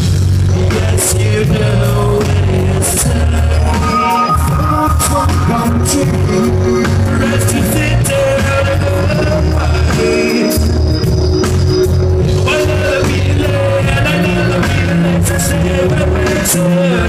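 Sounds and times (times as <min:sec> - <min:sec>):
electric guitars: 0:00.0 - 0:17.0
heavy bass line: 0:00.0 - 0:17.0
person singing: 0:00.5 - 0:11.1, 0:12.2 - 0:17.0.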